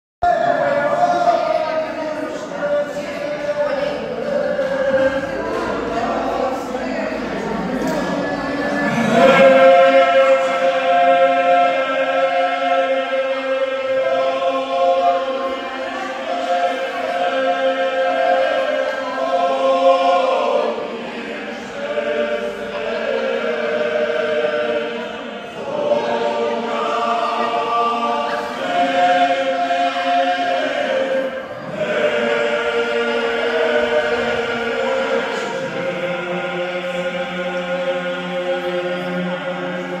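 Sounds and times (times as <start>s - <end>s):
group of men singing: 0.3s - 40.0s.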